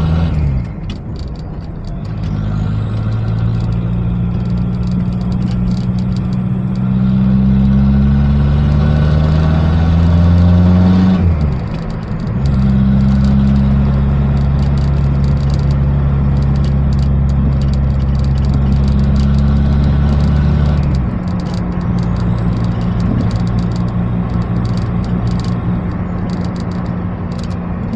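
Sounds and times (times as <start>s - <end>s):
diesel engine revving: 0.0s - 27.9s.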